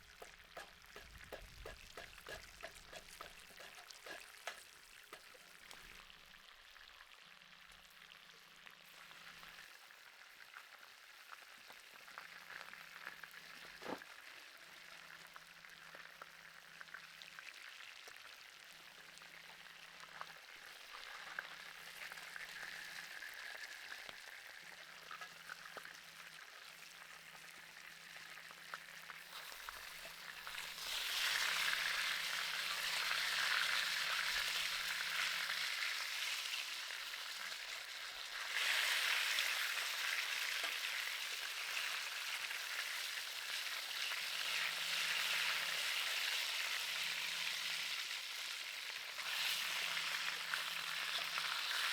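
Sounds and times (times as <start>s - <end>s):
steak sizzling over charcoal: 0.0s - 6.9s, 15.7s - 51.9s.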